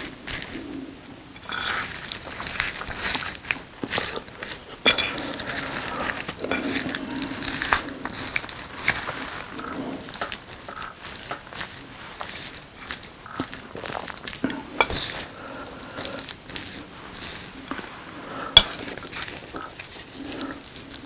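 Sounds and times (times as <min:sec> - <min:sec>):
close chewing and biting: 0:00.0 - 0:21.0.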